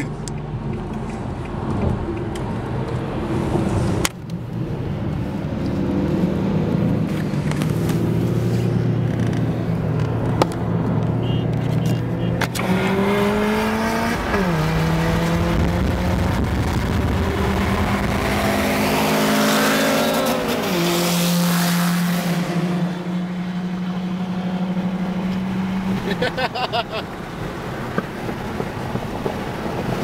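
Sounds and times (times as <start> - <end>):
car engine accelerating: 0.0 - 30.0
wind and road noise: 0.0 - 30.0.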